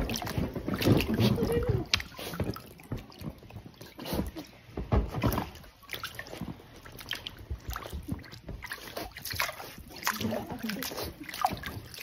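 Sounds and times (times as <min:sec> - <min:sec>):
paws splashing in water: 0:00.0 - 0:12.0
water dripping and trickling: 0:00.0 - 0:12.0.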